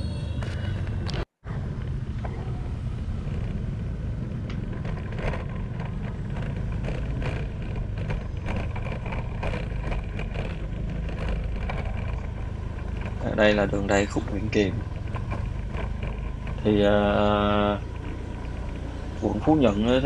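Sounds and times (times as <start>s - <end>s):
faint passing traffic: 0.0s - 20.0s
motorbike engine and road noise: 0.0s - 20.0s
wind rumble on microphone: 0.0s - 20.0s.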